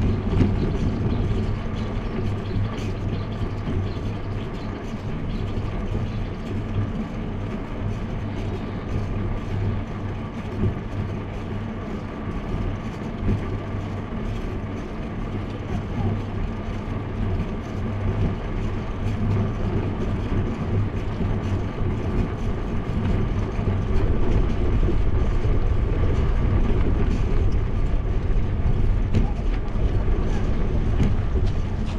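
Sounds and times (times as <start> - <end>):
steady low hum: 0.0 - 31.9
wind and road noise: 0.0 - 31.9.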